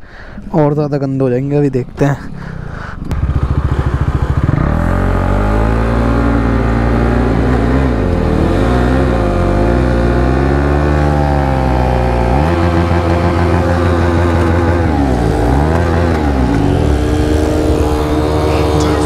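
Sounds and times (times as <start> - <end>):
motorcycle engine revving hard: 2.5 - 19.0.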